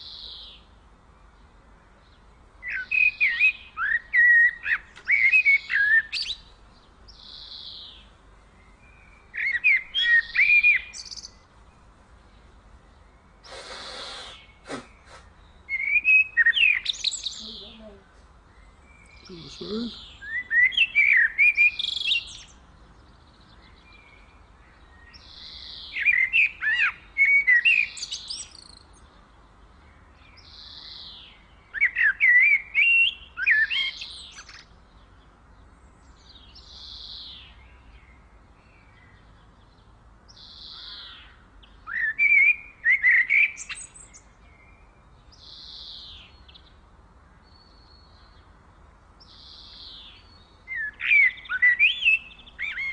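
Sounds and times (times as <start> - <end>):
songbirds twittering: 0.0 - 52.9
soft high bird calls: 2.0 - 48.6, 49.2 - 52.9.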